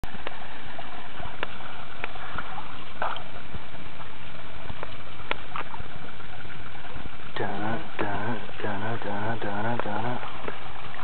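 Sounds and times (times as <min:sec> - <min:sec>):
splashing pond water: 0:00.0 - 0:11.0.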